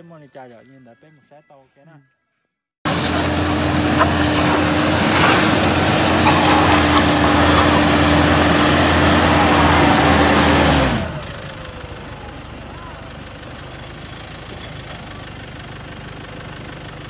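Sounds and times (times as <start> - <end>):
truck engine pulling: 2.9 - 17.0.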